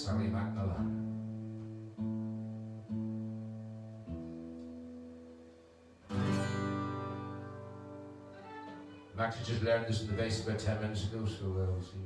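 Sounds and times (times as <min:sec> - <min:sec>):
acoustic guitar notes and chord: 0:00.0 - 0:10.8.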